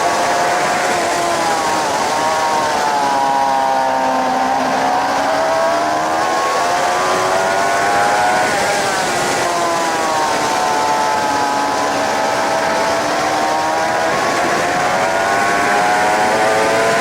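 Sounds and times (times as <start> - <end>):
motorcycle engine at speed: 0.0 - 17.0
wind rush: 0.0 - 17.0.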